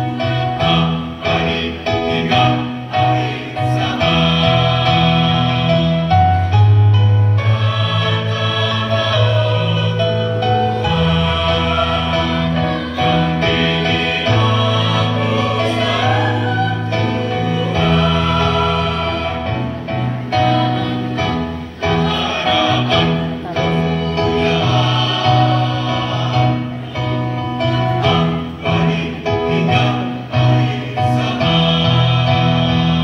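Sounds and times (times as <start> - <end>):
mixed choir singing: 0.0 - 33.0.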